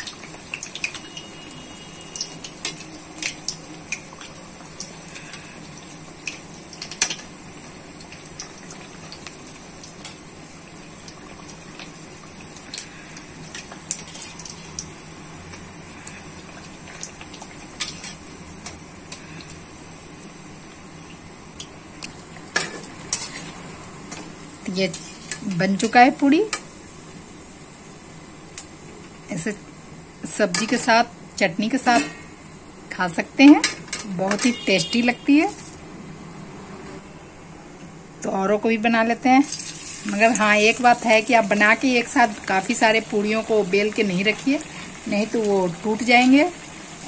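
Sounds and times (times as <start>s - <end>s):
frying bubbling sizzle: 0.0s - 37.1s, 38.0s - 47.0s.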